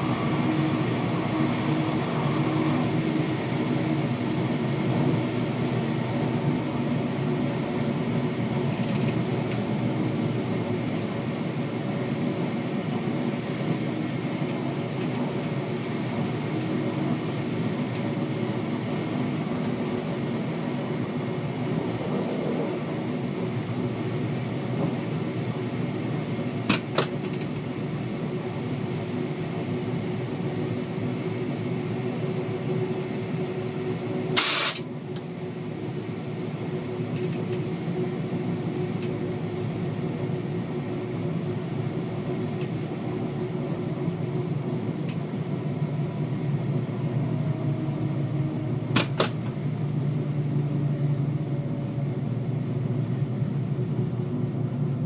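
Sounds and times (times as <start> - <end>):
train cab hum with tones: 0.0 - 55.0.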